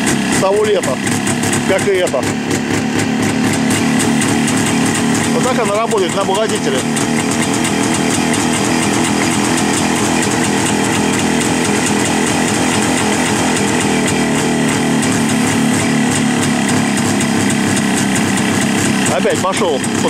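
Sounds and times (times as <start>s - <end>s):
two-stroke motorcycle engine idling: 0.0s - 20.0s.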